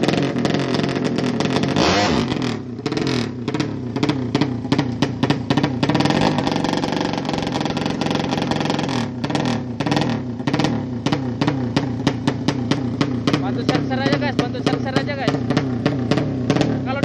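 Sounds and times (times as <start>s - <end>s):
engine crackles: 0.0s - 17.0s
motorcycle engine revving: 0.0s - 17.0s.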